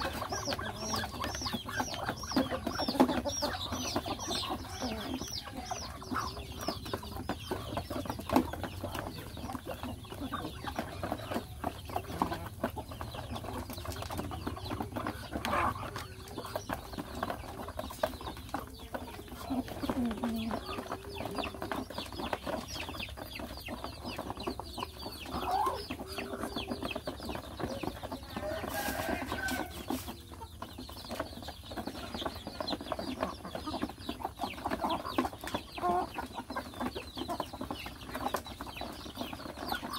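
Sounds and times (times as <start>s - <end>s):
beaks pecking at grain: 0.0s - 39.9s
chickens clucking: 0.0s - 39.9s.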